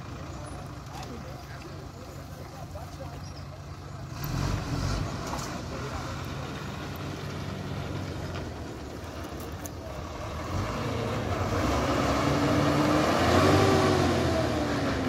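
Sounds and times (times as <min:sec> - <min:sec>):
diesel lorry engines running: 0:00.0 - 0:15.0.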